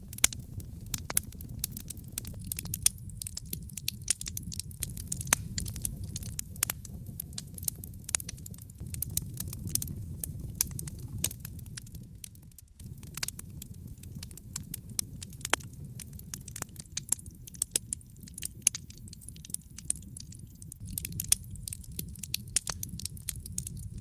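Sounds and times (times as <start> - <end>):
low steady rumble: 0.0 - 16.7, 20.8 - 24.0
wood fire crackling and popping: 0.0 - 24.0.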